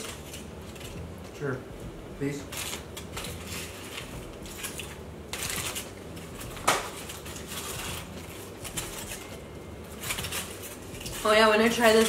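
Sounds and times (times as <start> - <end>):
foil wrappers crinkling: 0.0 - 1.6, 2.2 - 12.0.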